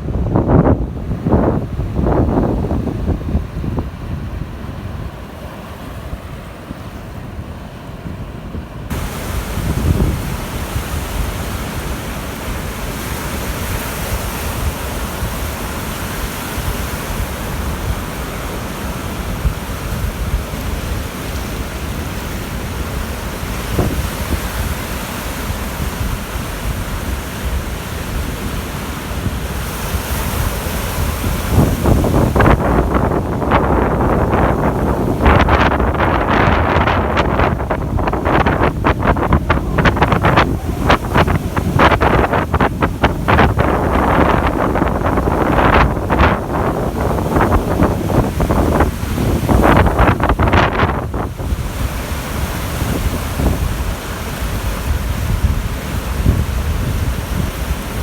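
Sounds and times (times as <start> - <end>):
surf breaking on beach: 0.0 - 58.0
wind gusting over microphone: 0.0 - 58.0.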